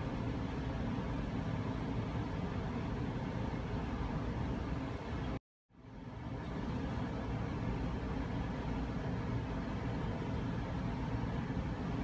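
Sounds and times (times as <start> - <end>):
room noise rumble and hiss: 0.0 - 12.0.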